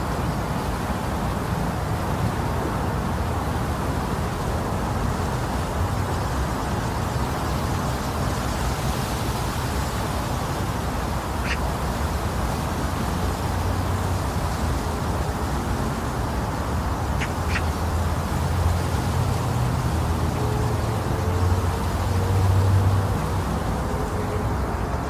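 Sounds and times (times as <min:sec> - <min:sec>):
deep rushing white noise: 0:00.0 - 0:25.0.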